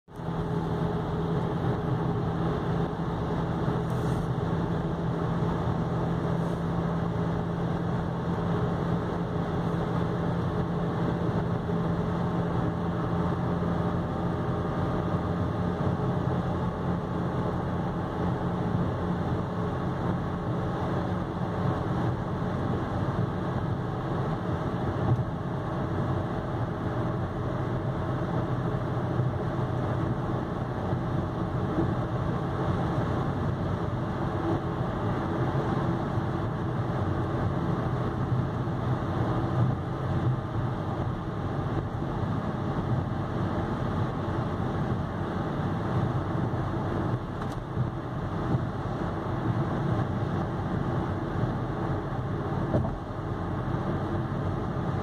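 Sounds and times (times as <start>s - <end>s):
road and wind noise: 0.0s - 55.0s
car engine hum: 0.1s - 55.0s.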